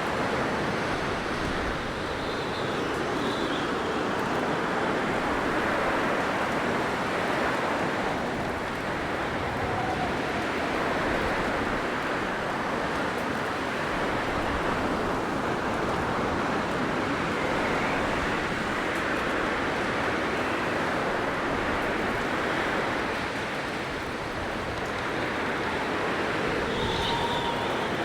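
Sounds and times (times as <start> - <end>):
blizzard wind rushing: 0.0 - 28.0.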